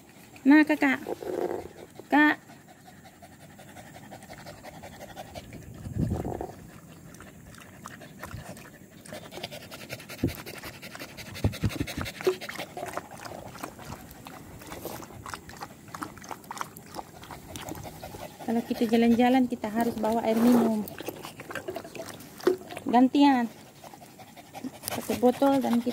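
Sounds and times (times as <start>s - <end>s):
dog panting: 0.0s - 25.9s.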